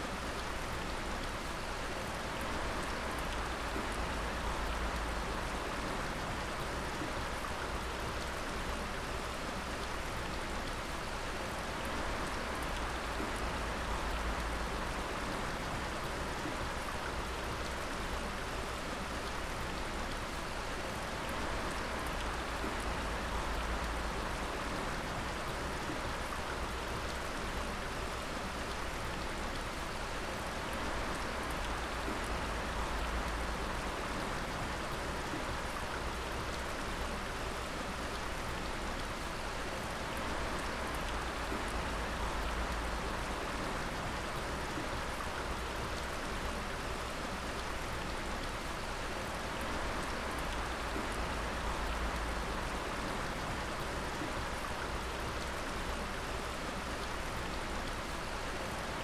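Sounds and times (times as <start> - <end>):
water dripping and splashing: 2.4 - 59.0.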